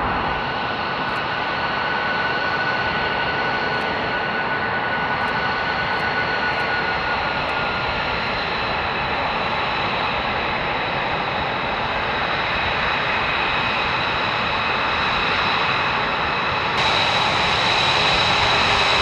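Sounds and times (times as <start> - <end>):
jet engines whining at taxi power: 0.0 - 19.0.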